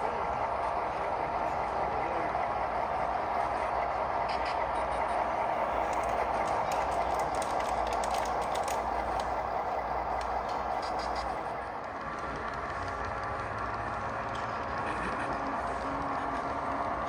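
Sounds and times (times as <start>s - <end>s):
model train humming on track: 0.0s - 17.0s.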